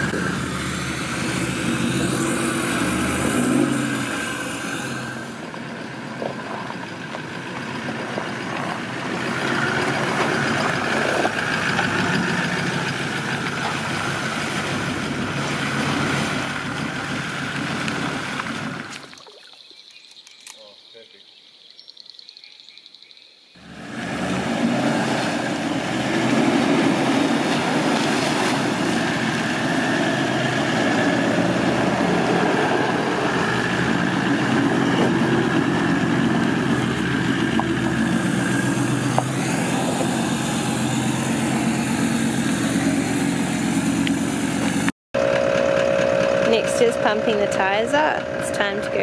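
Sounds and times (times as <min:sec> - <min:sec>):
off-road vehicle engine and tyres: 0:00.0 - 0:49.0.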